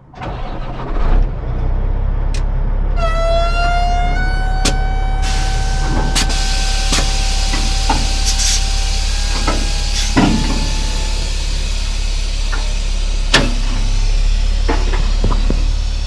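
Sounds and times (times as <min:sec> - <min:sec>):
low hum: 0:02.8 - 0:16.0
steady whistling tone: 0:03.0 - 0:16.0.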